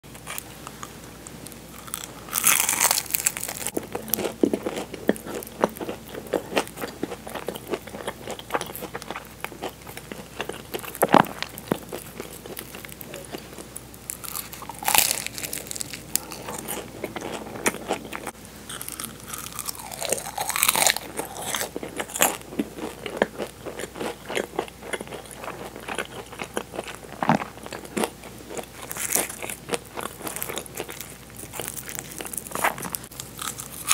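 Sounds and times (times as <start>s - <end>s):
pastry crunching: 0.1s - 33.9s
chewing: 0.2s - 33.9s.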